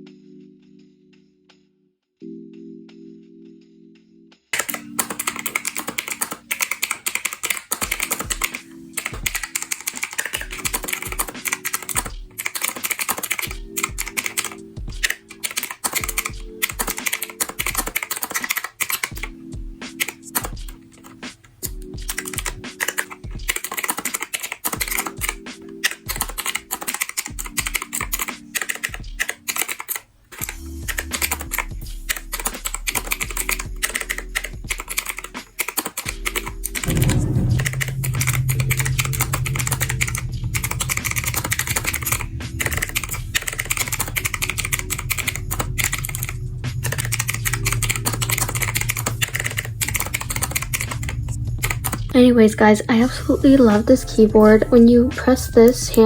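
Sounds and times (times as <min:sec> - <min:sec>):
background music: 0:00.0 - 0:56.0
mechanical keyboard typing: 0:04.6 - 0:52.2.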